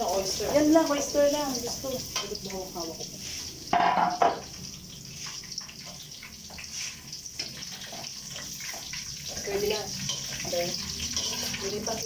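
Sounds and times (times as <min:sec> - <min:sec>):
meat sizzling in a wok: 0:00.0 - 0:12.0
spatula scraping and tapping pan: 0:00.3 - 0:12.0.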